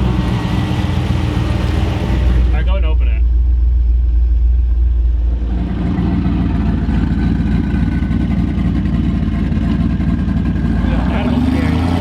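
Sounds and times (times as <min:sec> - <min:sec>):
car engine driving slowly: 0:00.0 - 0:12.0.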